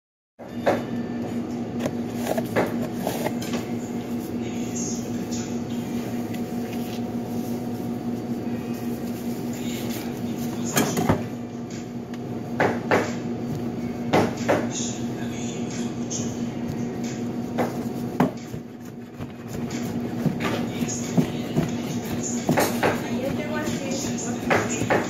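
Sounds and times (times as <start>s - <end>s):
kitchen equipment hum: 0.4s - 25.0s.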